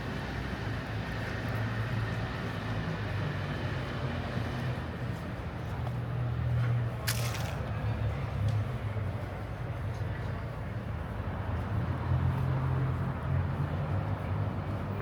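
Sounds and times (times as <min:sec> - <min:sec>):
urban noise: 0:00.0 - 0:15.0.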